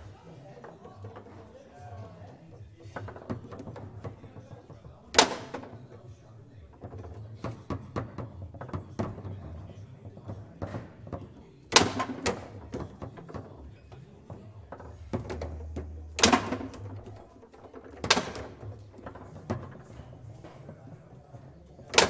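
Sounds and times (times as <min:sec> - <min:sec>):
foosball ball clacking: 0:00.0 - 0:22.0
loud sharp foosball hits: 0:02.8 - 0:06.1, 0:06.8 - 0:22.0.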